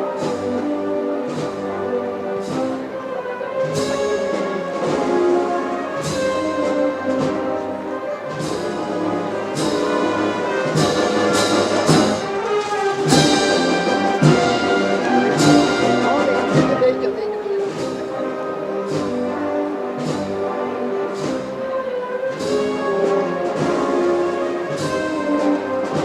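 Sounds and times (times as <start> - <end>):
drum strokes: 0.0 - 3.0, 3.6 - 26.0
wind band playing a march: 0.0 - 26.0.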